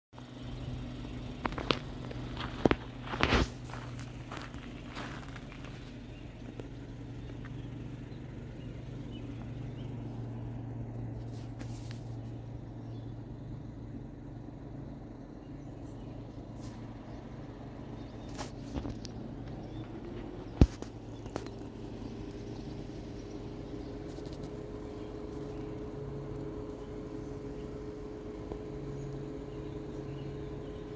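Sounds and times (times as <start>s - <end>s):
engine humming: 0.1s - 30.9s.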